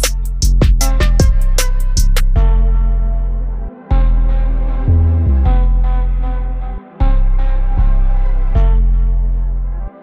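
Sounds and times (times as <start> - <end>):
heavy steady bass: 0.0 - 10.0.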